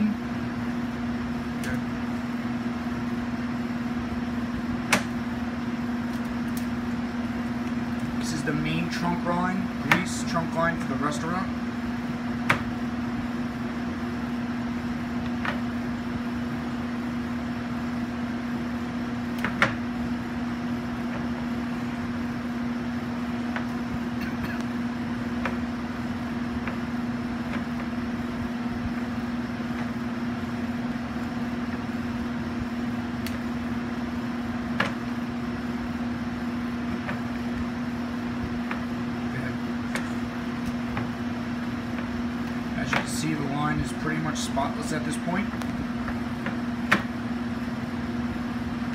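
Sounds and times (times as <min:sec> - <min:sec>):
machinery hum: 0:00.0 - 0:48.9.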